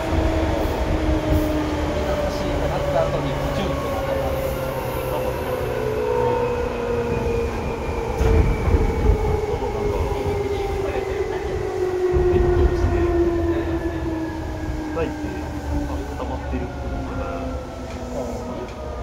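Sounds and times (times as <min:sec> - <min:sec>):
electric train low rumble: 0:00.0 - 0:19.0.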